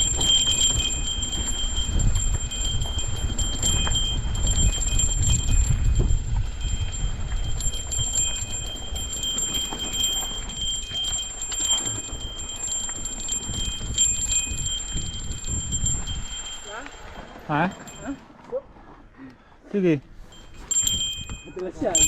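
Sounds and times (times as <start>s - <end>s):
high ringing tone: 0.0s - 18.4s, 20.2s - 22.0s
bike rolling over rough trail: 0.0s - 19.1s.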